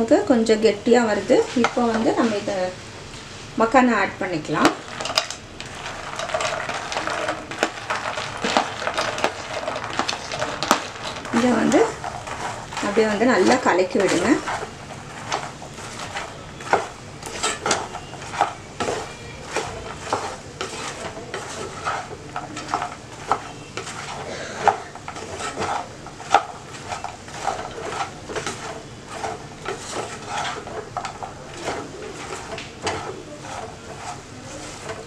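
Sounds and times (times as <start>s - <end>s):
spatula scraping pan: 1.0s - 2.8s, 4.5s - 35.0s.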